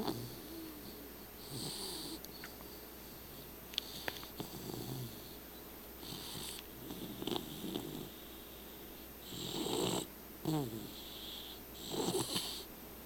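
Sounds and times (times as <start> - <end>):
dog snoring: 0.0 - 2.5, 3.1 - 5.4, 6.0 - 8.4, 9.2 - 12.7.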